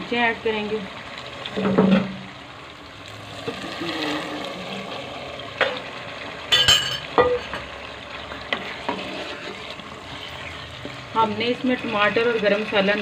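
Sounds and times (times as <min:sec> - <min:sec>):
food sizzling in pot: 0:00.0 - 0:13.0.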